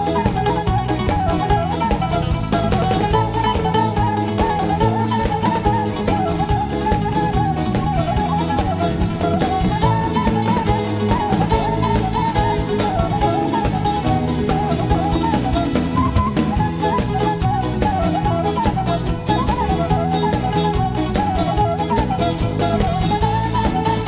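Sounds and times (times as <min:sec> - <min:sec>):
bass: 0:00.0 - 0:24.0
drum kit beat: 0:00.0 - 0:24.0
keyboard: 0:00.0 - 0:24.0
ornamented lead melody: 0:00.0 - 0:24.0
plucked lute: 0:00.0 - 0:24.0.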